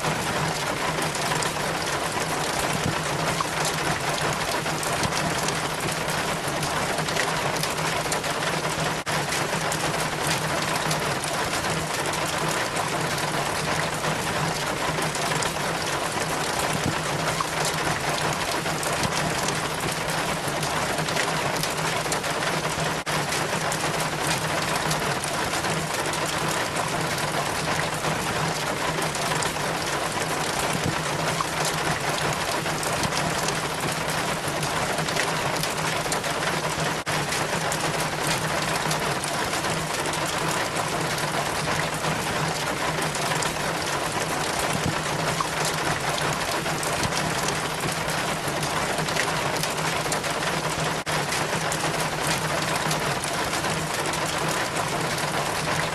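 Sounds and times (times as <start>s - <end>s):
rainwater splashing down rain chain: 0.0s - 55.9s.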